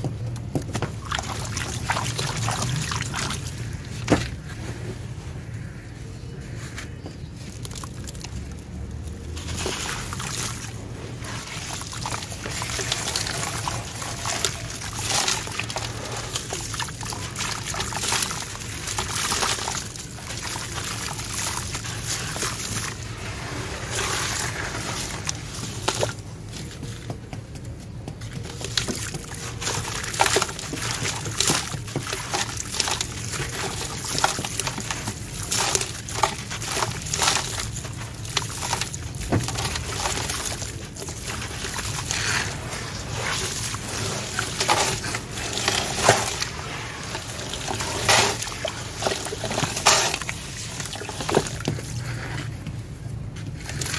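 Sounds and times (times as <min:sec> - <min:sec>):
water splashing and trickling: 0:00.0 - 0:05.9, 0:07.2 - 0:53.9
gritty crackling of crumbling sand: 0:00.0 - 0:53.9.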